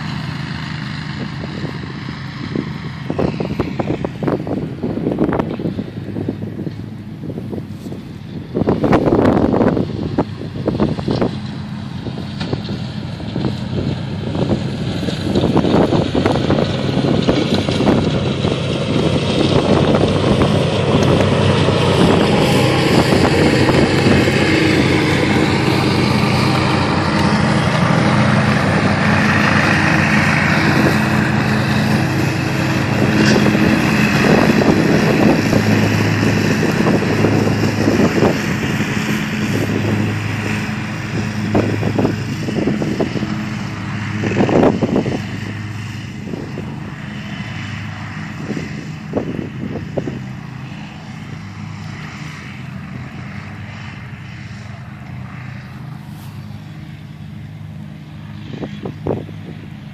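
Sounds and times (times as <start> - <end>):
lawn mowers running: 0.0 - 59.9.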